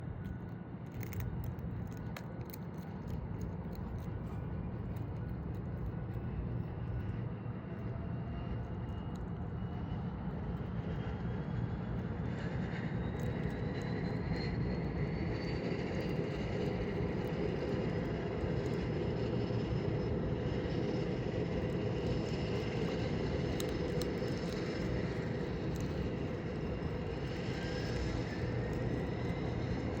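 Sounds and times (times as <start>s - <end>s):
propeller aircraft engine droning: 0.0s - 30.0s.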